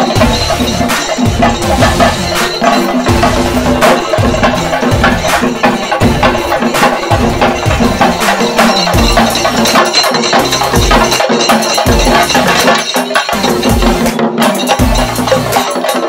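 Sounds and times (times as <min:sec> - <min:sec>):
deep drum beat: 0:00.0 - 0:15.8
drum ensemble drumming with sticks: 0:00.0 - 0:16.0.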